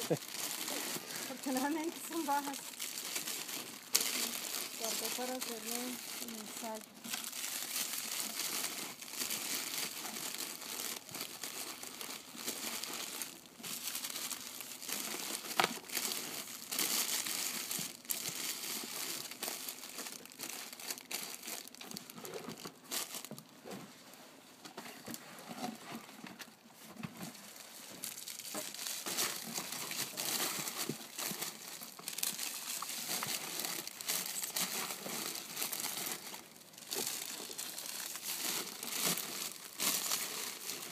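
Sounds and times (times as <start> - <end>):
plastic sleeves crinkling: 0.0 - 23.8, 24.7 - 40.9.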